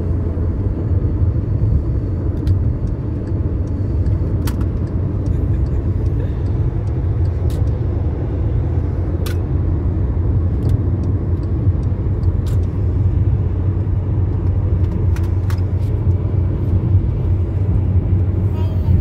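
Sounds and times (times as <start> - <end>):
car road and engine drone: 0.0 - 19.0.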